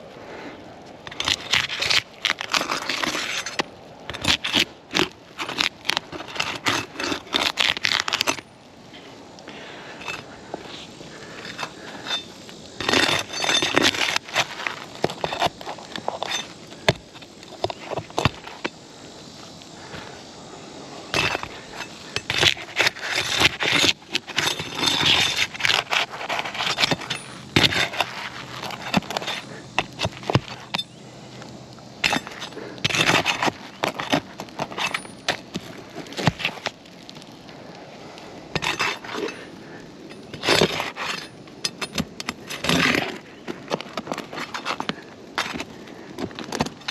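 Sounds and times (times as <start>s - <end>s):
scraping roof shingles: 1.0s - 9.0s, 9.6s - 19.0s, 21.0s - 30.9s, 32.0s - 37.6s, 38.4s - 46.9s.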